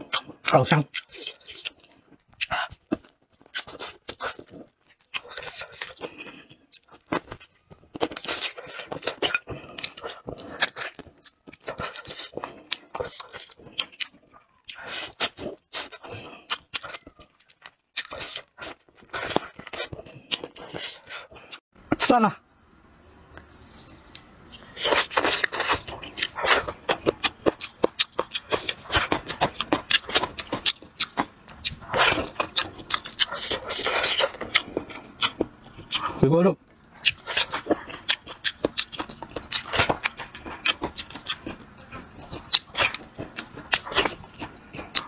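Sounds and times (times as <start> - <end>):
man chewing and sucking food: 0.0 - 21.6, 23.3 - 45.0.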